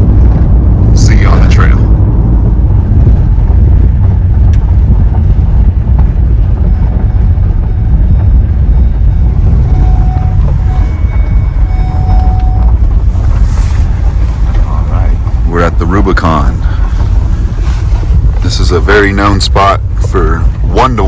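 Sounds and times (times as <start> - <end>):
vehicle rumble: 0.0 - 21.0
wind buffeting microphone: 0.0 - 21.0.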